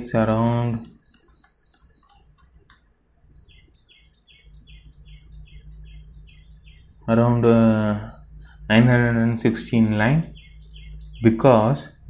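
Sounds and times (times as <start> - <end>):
low room hum: 0.0 - 12.0
small bird chirping: 0.0 - 12.0.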